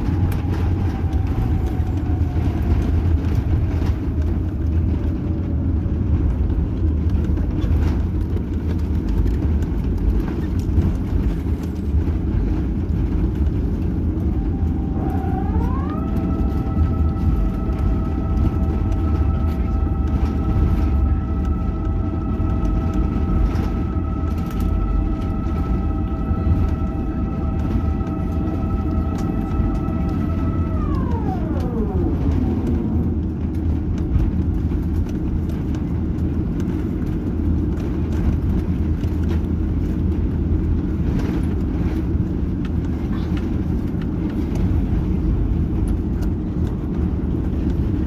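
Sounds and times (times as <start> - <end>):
airliner cabin rumble: 0.0 - 48.0
multi-tone engine whine: 0.0 - 48.0.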